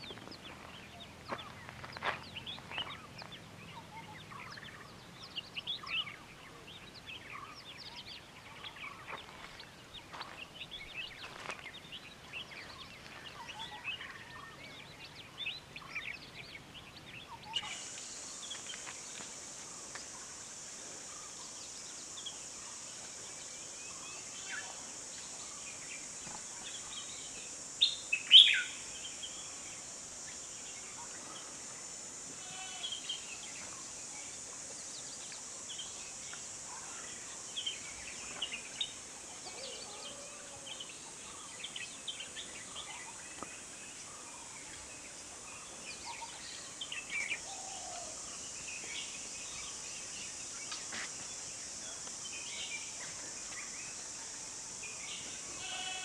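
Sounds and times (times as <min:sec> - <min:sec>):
wild birds chirping and calling: 0:00.0 - 0:54.2, 0:54.8 - 0:56.0
steady high hiss: 0:00.0 - 0:56.0.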